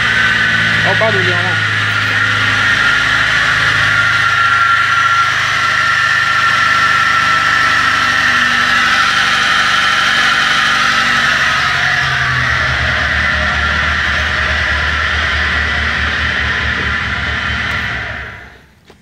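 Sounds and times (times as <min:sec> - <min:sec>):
high-pitched bearing whine: 0:00.0 - 0:18.7
car engine idling: 0:00.0 - 0:18.8.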